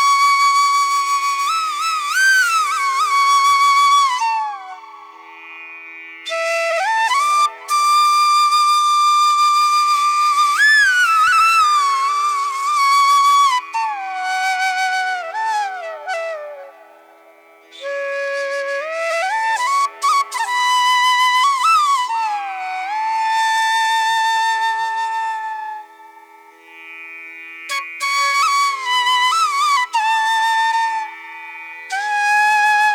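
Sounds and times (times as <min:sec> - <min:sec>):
solo flute melody: 0:00.0 - 0:05.5, 0:06.2 - 0:26.5, 0:27.7 - 0:32.9.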